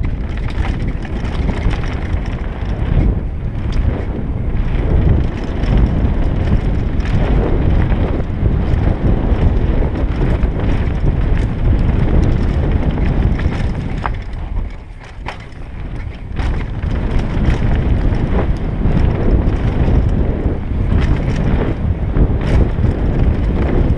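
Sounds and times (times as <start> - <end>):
bike rattling over bumps: 0.0 - 23.9
bike tyres rumbling on dirt: 0.0 - 23.9
wind rushing over microphone: 0.0 - 23.9.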